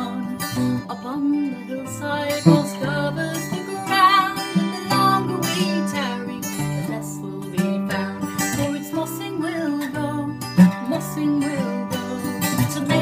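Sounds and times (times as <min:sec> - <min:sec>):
strummed acoustic guitar: 0:00.0 - 0:13.0
woman singing folk song: 0:00.0 - 0:13.0.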